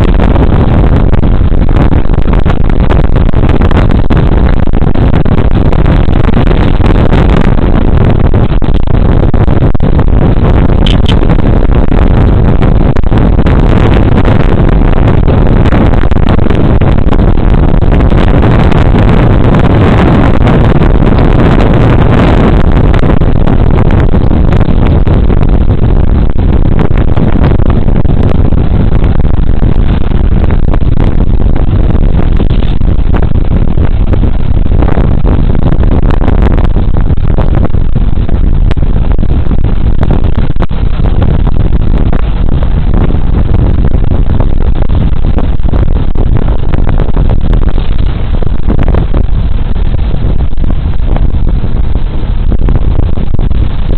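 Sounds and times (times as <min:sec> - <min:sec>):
wind rush over microphone: 0:00.0 - 0:53.9.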